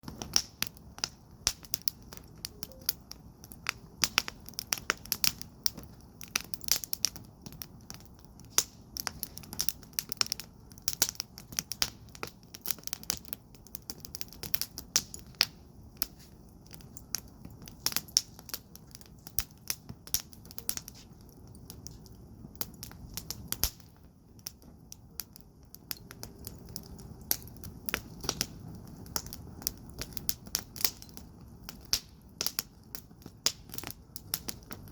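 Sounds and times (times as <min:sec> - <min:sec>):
fire crackling and popping: 0:00.0 - 0:34.9
low rumble of flame: 0:00.0 - 0:34.9.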